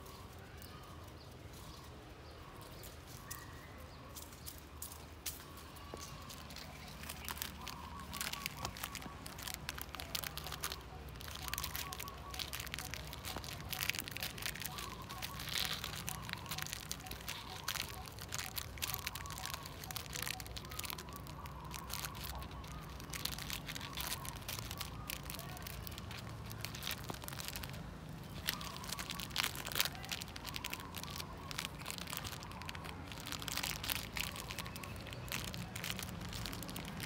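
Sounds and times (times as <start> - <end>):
puppy chewing plastic wrapper: 5.4 - 37.0.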